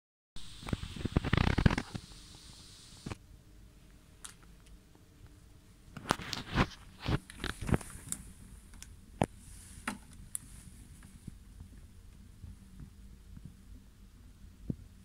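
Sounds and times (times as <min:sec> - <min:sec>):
crackly clicks and knocks: 0:00.6 - 0:03.2, 0:04.2 - 0:13.6.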